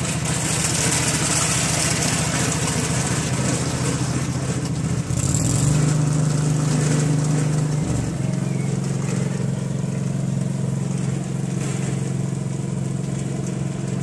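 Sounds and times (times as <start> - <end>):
tractor engine pulsing: 0.0 - 14.0.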